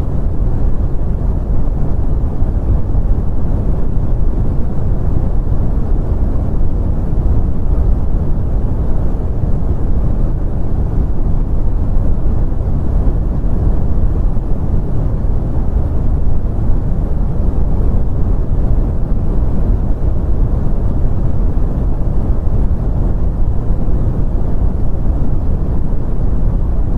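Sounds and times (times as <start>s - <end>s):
deep rumbling brown noise: 0.0s - 26.9s.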